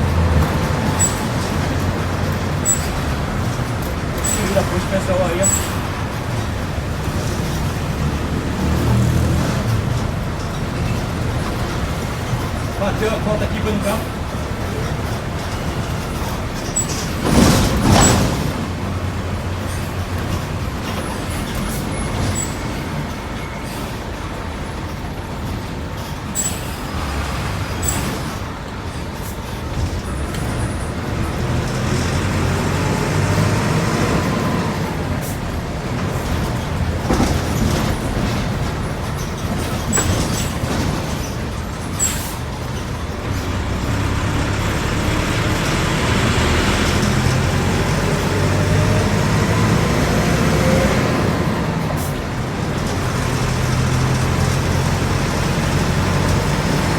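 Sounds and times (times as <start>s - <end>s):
bus diesel engine revving: 0.0s - 56.9s.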